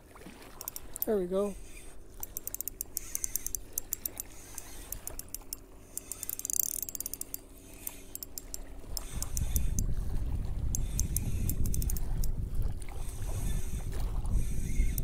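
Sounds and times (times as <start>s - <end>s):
fishing reel clicking: 0.5s - 10.0s, 10.6s - 12.4s, 13.1s - 15.0s.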